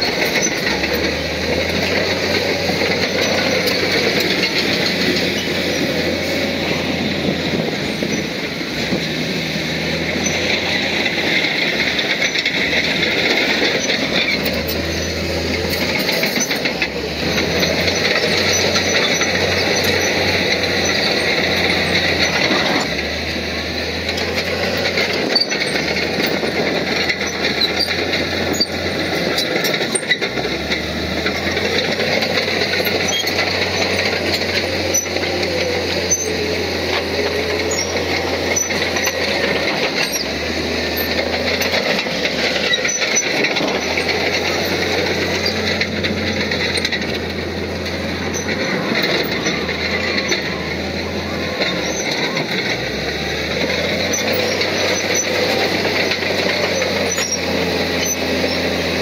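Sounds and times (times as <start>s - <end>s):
bulldozer diesel engine running: 0.0s - 59.0s
steel tracks clanking and squealing: 0.0s - 59.0s.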